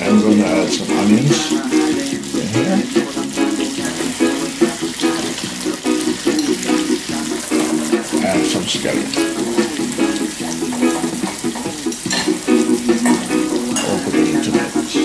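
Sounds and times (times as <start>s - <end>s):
background music: 0.0s - 15.0s
butter sizzling in a saucepan: 0.0s - 15.0s.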